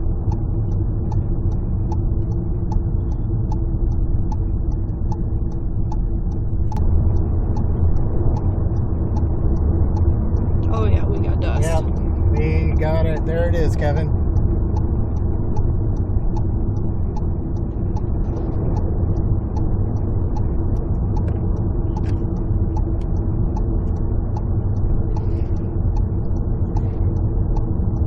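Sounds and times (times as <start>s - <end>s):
faint regular ticking: 0.0s - 28.0s
vehicle engine and road noise: 0.0s - 28.0s.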